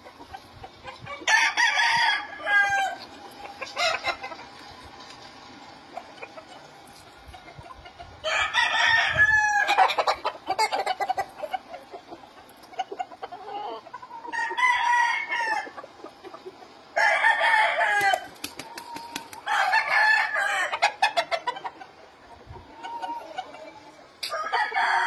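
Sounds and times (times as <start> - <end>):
roosters crowing: 0.0 - 21.8, 22.6 - 25.0.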